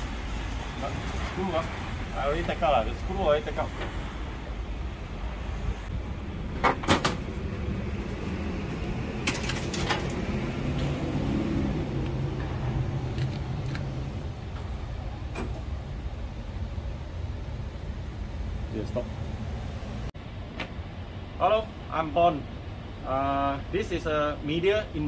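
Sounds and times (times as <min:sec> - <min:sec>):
steady low rumble: 0:01.6 - 0:09.3, 0:10.0 - 0:23.1.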